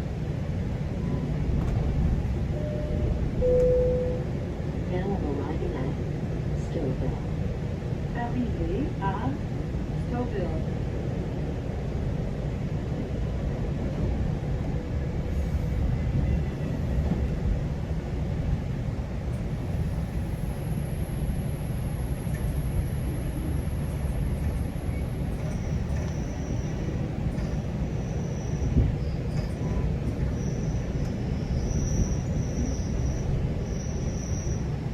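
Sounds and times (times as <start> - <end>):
train rumbling: 0.0 - 34.9.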